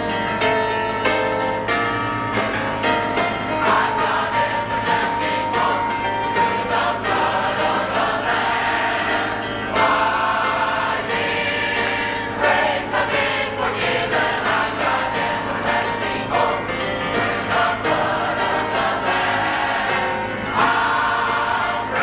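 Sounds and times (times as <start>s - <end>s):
choir singing gospel: 0.0s - 22.0s.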